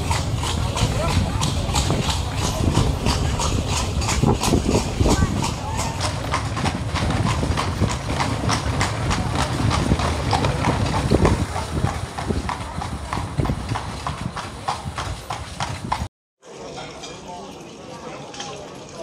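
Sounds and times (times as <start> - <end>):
carriage low rumble: 0.0 - 16.1
horse hooves clip-clopping on street: 0.0 - 16.1.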